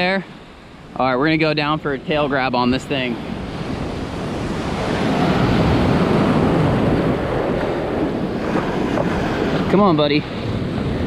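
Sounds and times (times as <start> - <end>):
surf breaking at water's edge: 0.0 - 11.0
wind buffeting microphone: 0.0 - 11.0.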